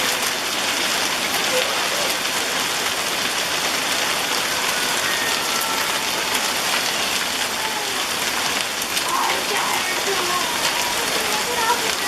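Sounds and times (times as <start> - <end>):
hail and heavy rain pelting: 0.0 - 12.0.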